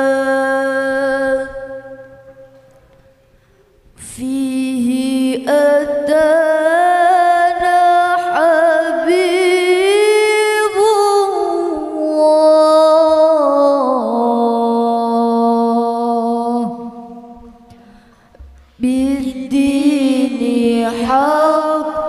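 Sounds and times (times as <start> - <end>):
woman singing into a microphone: 0.0 - 2.6, 4.0 - 17.9, 18.7 - 22.0.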